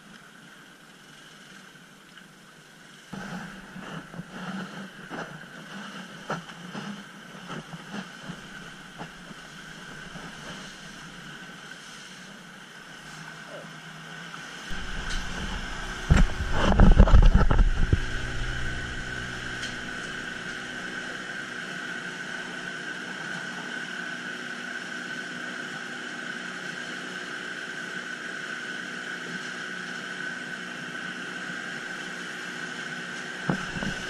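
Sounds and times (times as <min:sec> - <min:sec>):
outboard motor whine: 0:03.1 - 0:34.0.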